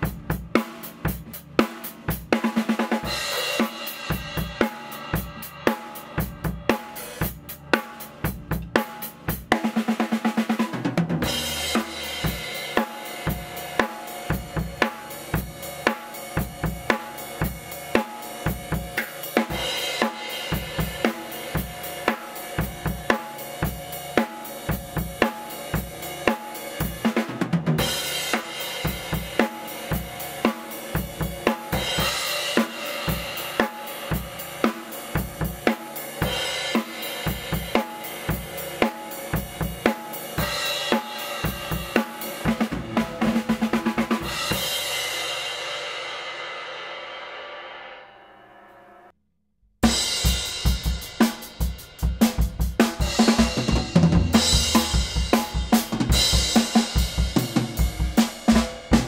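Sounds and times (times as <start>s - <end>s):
hi-hat and cymbals: 0.0s - 9.6s, 11.2s - 27.2s, 27.8s - 46.5s, 49.8s - 59.0s.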